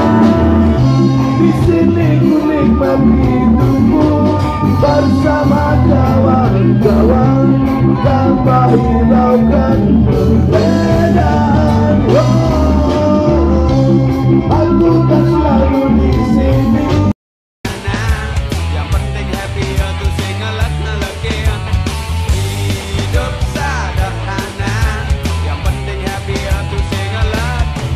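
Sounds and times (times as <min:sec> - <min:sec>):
person singing: 0:00.0 - 0:17.1, 0:17.7 - 0:21.7, 0:22.7 - 0:27.9
band playing: 0:00.0 - 0:27.9.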